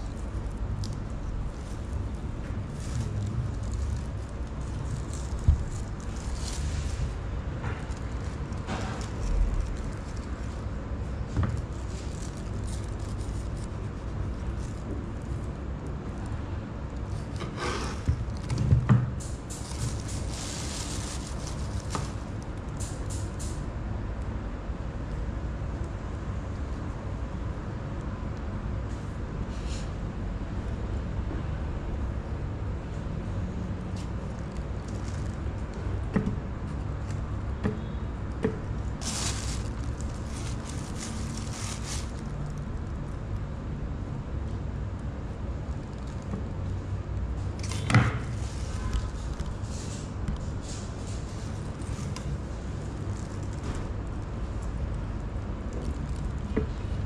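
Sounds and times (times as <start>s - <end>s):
steady low rumble: 0.0s - 17.4s, 18.0s - 47.7s
steady low hum: 0.0s - 57.0s.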